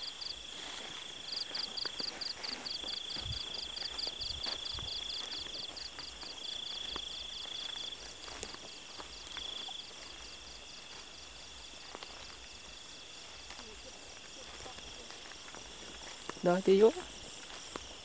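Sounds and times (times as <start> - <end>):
insects pulsed chirping: 0.0 - 18.0
insects steady high trill: 0.0 - 18.0.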